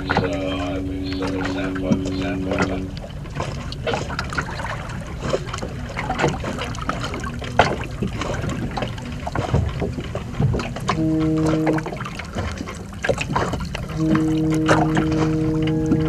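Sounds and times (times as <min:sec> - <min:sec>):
knocks and clicks aboard: 0:00.0 - 0:16.0
water lapping against a hull: 0:00.0 - 0:16.0
wind rumble on microphone: 0:00.0 - 0:16.0.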